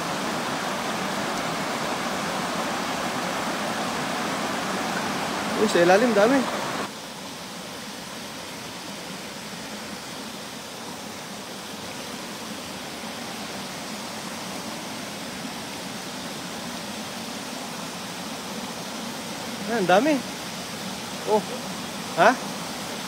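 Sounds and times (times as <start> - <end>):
water rushing over weir: 0.0 - 23.0.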